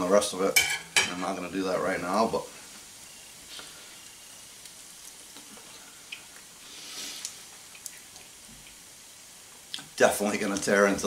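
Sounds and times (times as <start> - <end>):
wood embers hissing and crackling: 0.0 - 11.0.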